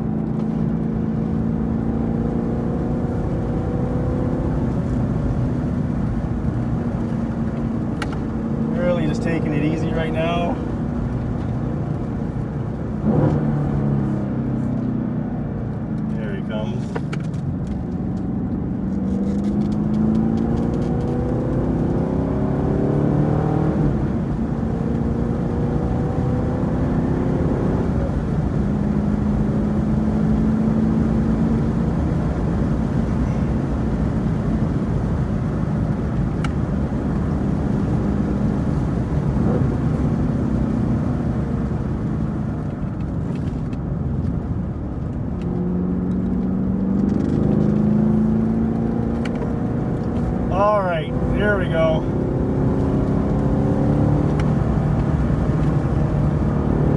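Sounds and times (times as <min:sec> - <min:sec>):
car engine accelerating: 0:00.0 - 0:56.9
road and tyre noise: 0:00.0 - 0:56.9.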